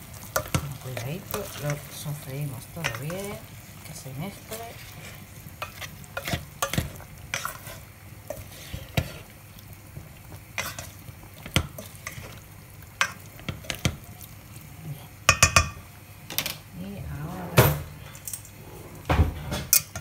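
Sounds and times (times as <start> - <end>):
low sizzle of sauteing: 0.0 - 20.0.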